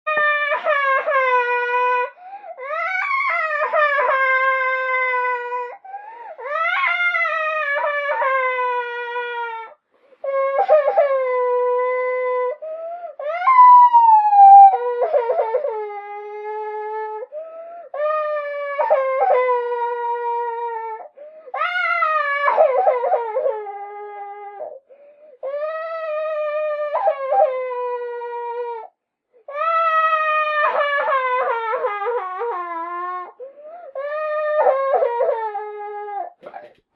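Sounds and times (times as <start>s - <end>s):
girl crying with high wails: 0.1s - 36.4s.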